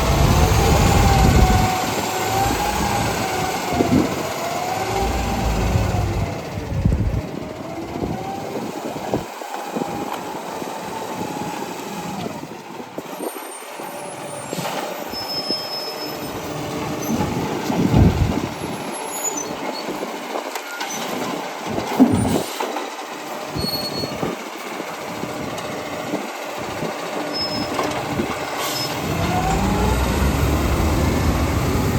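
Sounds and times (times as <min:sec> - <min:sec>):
garbage truck running: 0:00.0 - 0:31.9.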